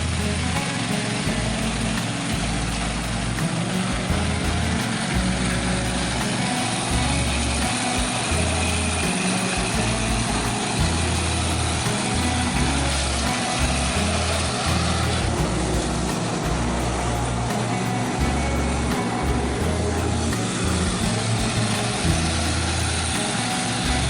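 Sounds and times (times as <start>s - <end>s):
background music with bass line: 0.0s - 24.0s
riding lawn mower engine: 0.0s - 24.0s.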